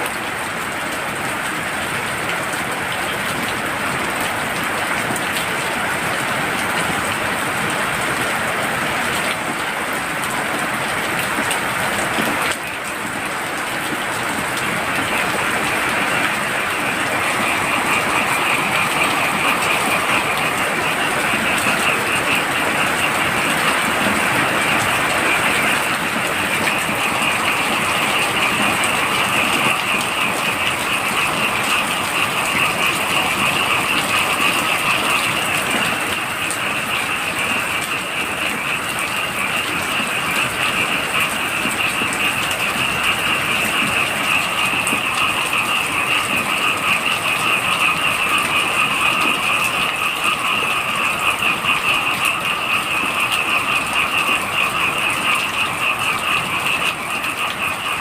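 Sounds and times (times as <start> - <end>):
frogs calling: 0.0 - 58.0
heavy rain: 0.0 - 58.0.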